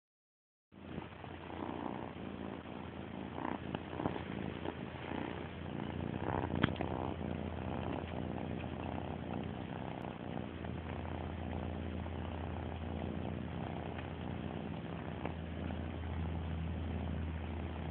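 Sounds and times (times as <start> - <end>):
cat purring: 0.8 - 17.9.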